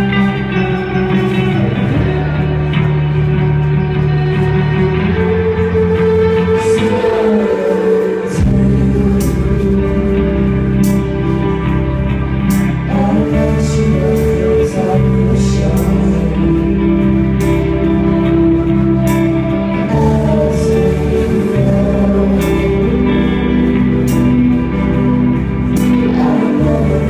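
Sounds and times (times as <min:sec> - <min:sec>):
electric guitar chords: 0:00.0 - 0:27.0
rock band playing live: 0:00.0 - 0:27.0.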